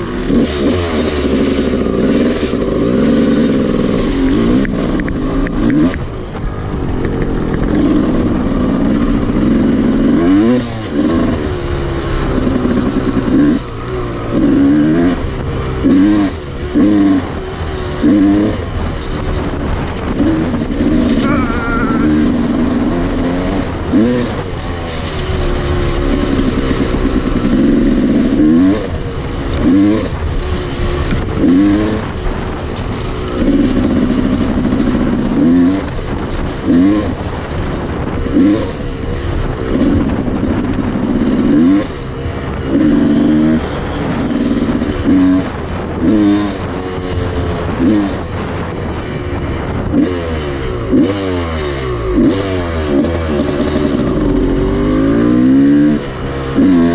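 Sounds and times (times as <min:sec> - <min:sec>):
dirt bike engine revving: 0:00.0 - 0:56.9
wind on microphone: 0:00.0 - 0:56.9.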